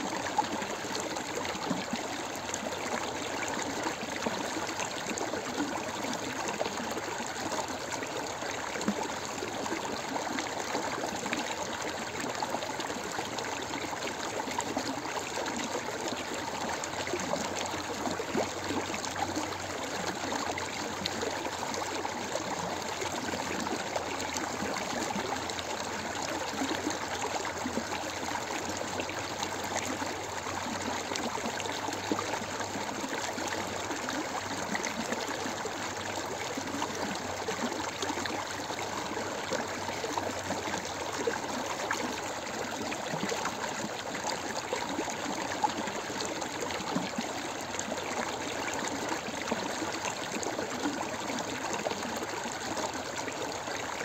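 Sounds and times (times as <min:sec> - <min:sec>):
stream of running water: 0:00.0 - 0:54.0.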